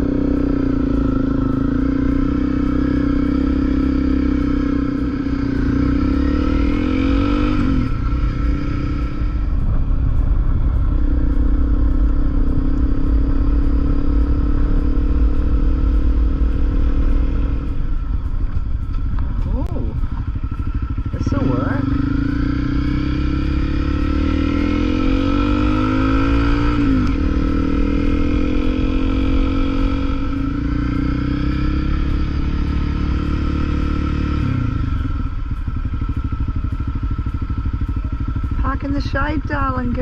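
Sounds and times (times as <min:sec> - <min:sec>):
motorcycle engine running: 0:00.0 - 0:40.0
wind rumble on microphone: 0:00.0 - 0:40.0.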